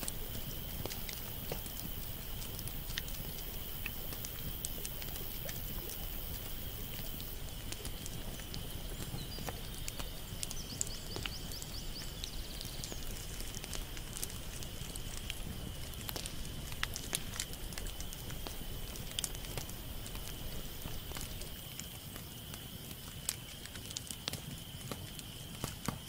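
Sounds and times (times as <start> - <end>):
sharp clicks and crackles: 0.0 - 21.9, 23.2 - 26.0
continuous high whine: 0.0 - 26.0
outdoor background noise: 0.0 - 26.0
rapid high ticks: 0.0 - 26.0.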